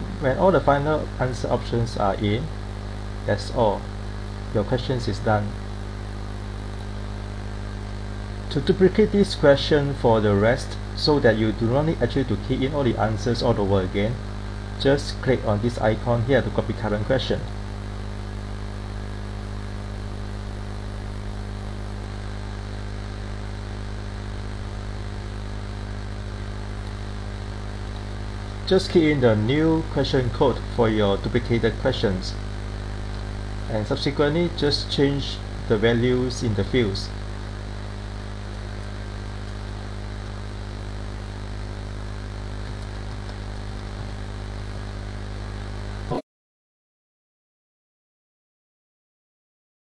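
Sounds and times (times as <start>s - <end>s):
background hiss: 0.0s - 17.5s, 19.7s - 44.7s
steady low hum: 0.0s - 46.2s.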